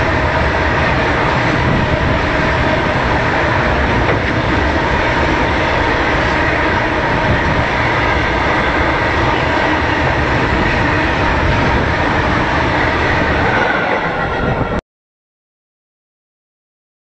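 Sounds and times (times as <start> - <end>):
train rumbling past: 0.0 - 14.8.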